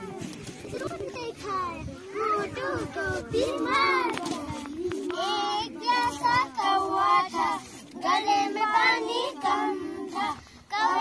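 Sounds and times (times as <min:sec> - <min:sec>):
children singing together: 0:02.2 - 0:11.0.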